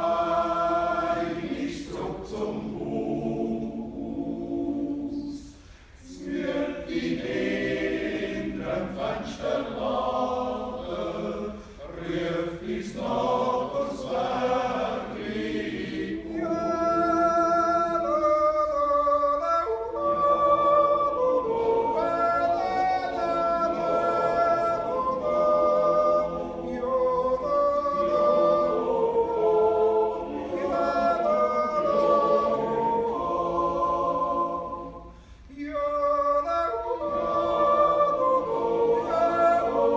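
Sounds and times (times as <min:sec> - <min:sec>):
men's choir yodelling a cappella: 0:00.0 - 0:39.9.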